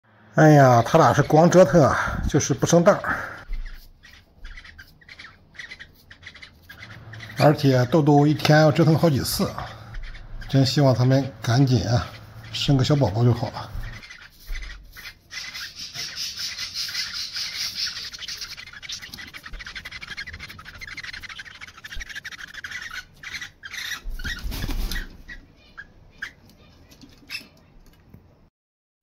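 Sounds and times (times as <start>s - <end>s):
parrots chattering and squawking: 0.5s - 28.0s.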